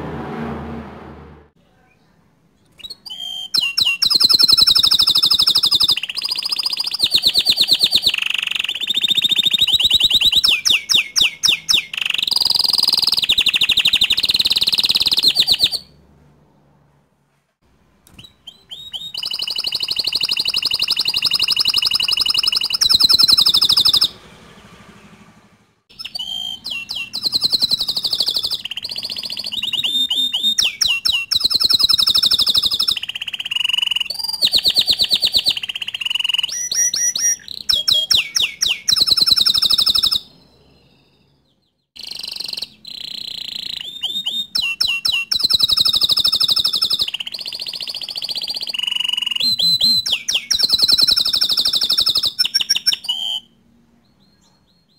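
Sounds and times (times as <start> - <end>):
canary singing trills: 1.8 - 16.0, 18.1 - 25.3, 25.9 - 54.9.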